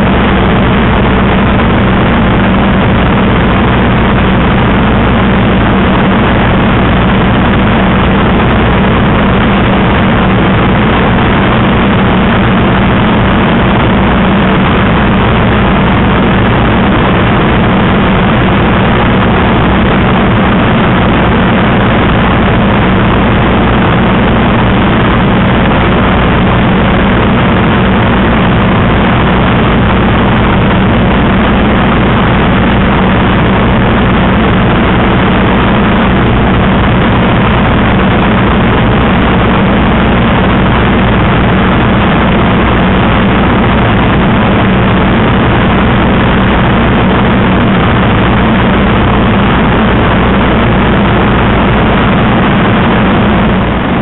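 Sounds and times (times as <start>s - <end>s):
aircraft engine drone: 0.0s - 54.0s
rushing airflow: 0.0s - 54.0s.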